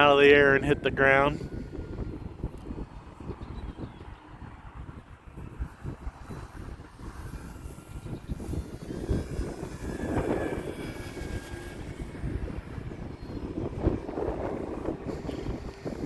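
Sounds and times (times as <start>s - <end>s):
model plane motor whine: 0.0s - 4.2s, 4.9s - 16.0s
wind buffeting microphone: 0.0s - 16.0s.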